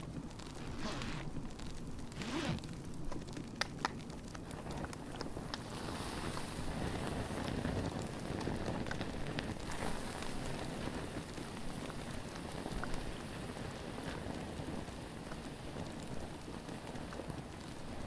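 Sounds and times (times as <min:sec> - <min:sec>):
steady hiss: 0:00.0 - 0:02.6, 0:05.5 - 0:18.0
campfire crackling: 0:00.0 - 0:18.0
fire popping: 0:00.0 - 0:18.0.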